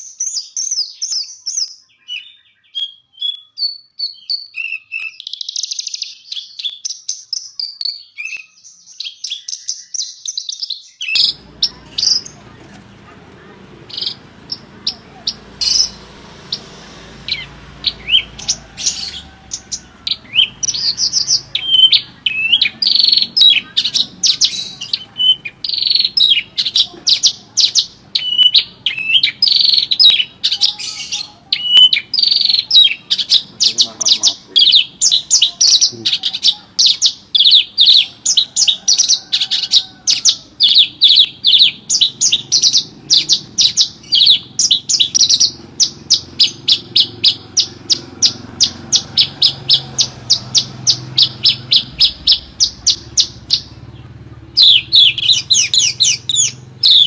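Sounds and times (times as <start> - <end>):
bird chirps and trills: 0.0 - 57.0.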